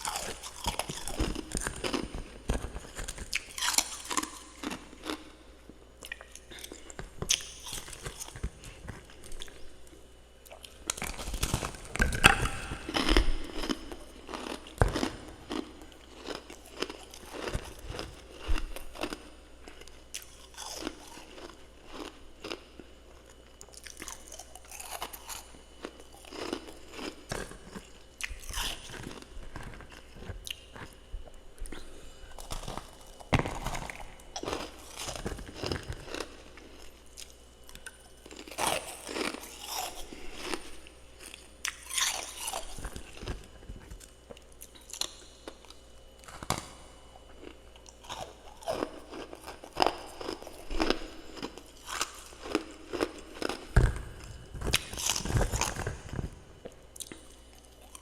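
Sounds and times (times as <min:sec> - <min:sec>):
chewing and crunching frost: 0:00.0 - 0:58.0.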